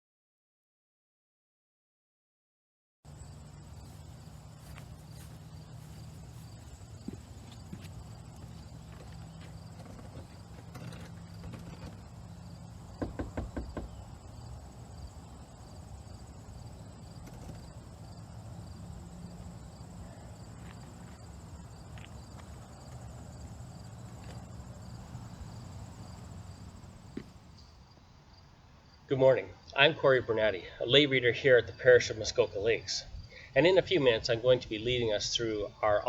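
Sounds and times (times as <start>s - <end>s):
crickets chirping: 3.1s - 36.0s.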